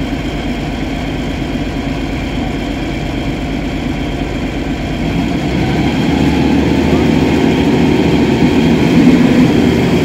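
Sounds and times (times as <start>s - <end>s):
excavator diesel engine idling: 0.0s - 10.0s.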